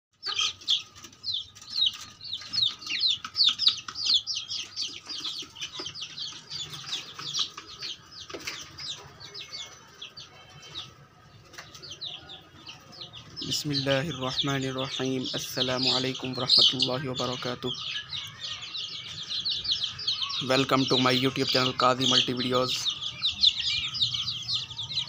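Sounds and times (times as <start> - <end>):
chicks peeping: 0.1 - 25.0.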